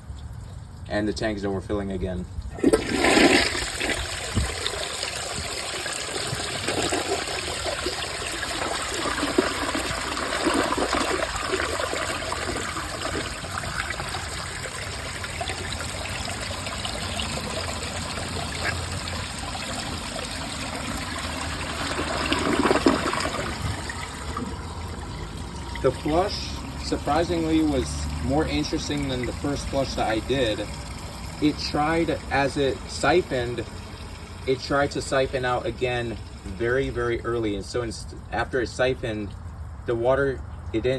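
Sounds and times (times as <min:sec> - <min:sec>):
toilet refilling with water: 0:02.5 - 0:38.3.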